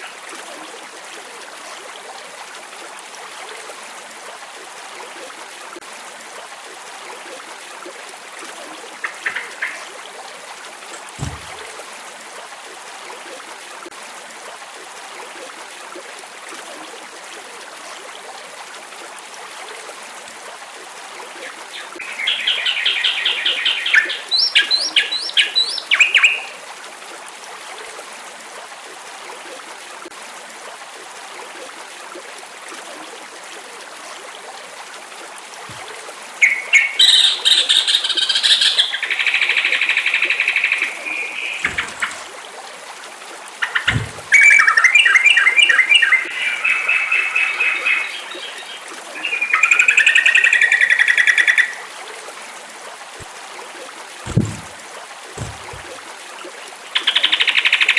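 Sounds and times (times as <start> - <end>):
flowing stream water: 0.0 - 57.9.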